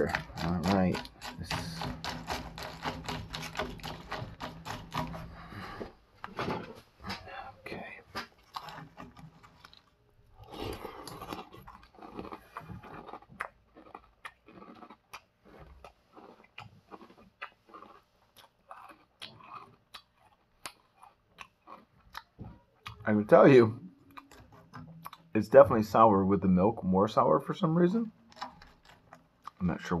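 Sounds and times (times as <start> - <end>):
person chewing crunchy cereal: 0.0 - 6.0, 7.4 - 25.5, 28.2 - 30.0.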